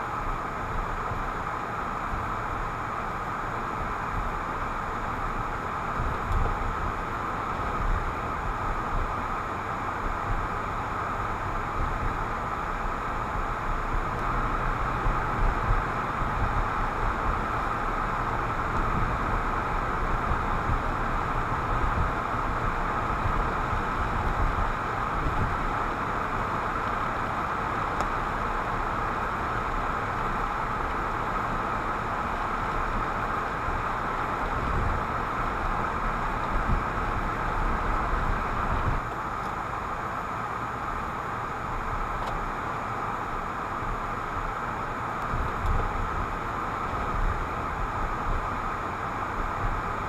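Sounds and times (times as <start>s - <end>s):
constant hiss: 0.0s - 50.0s
tyre and engine rumble: 0.0s - 50.0s.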